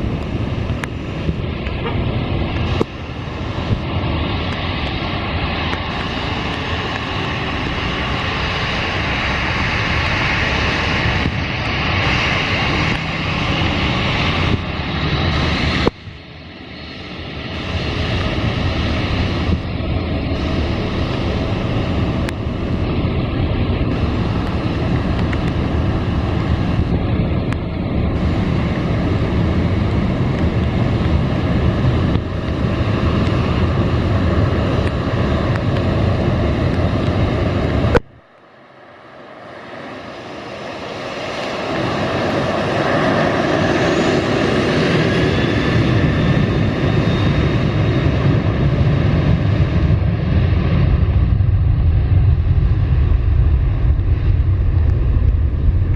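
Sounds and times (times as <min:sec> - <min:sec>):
airliner engines rumbling: 0:00.0 - 0:55.9.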